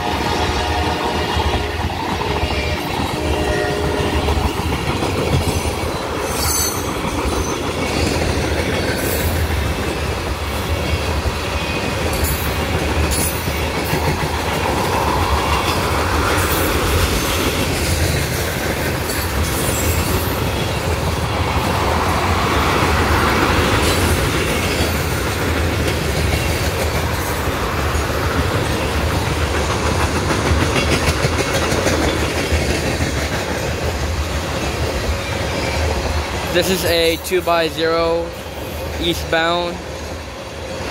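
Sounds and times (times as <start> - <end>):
wheels clacking over rail joints: 0.0 - 38.2
train wheels rumbling on rail: 0.0 - 40.9.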